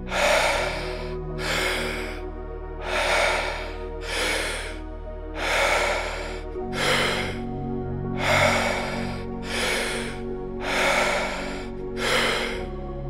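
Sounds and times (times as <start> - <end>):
deep rhythmic breathing: 0.0 - 13.0
soft sustained pad music: 0.0 - 13.0.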